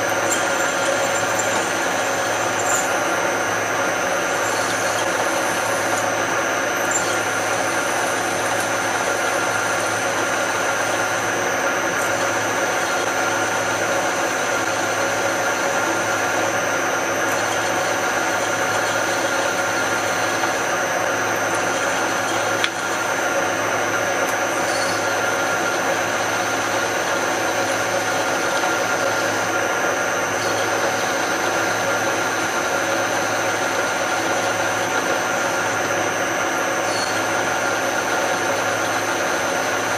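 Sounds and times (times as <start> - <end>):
drill boring into steel: 0.0 - 39.9.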